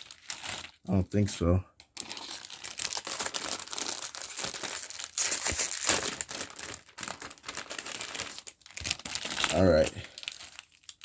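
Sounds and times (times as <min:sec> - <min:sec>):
foil wrappers crinkling: 0:00.0 - 0:00.9, 0:01.8 - 0:11.0.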